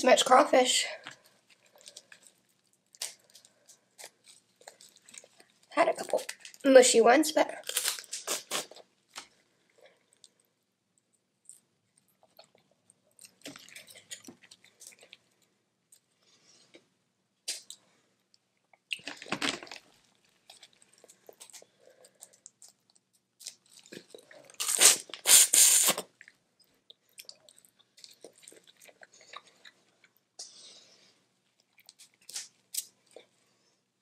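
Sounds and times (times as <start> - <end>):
chewing: 1.0 - 6.6, 7.7 - 16.8, 18.7 - 25.3, 25.9 - 33.6.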